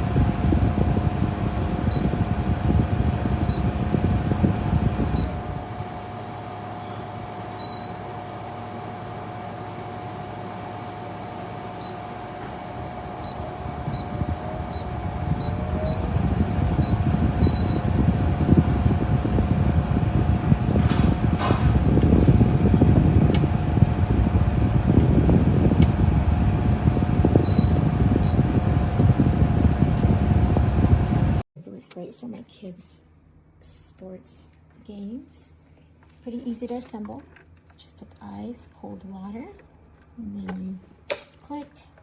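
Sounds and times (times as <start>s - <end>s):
air cooler fan whining: 0.0s - 42.0s.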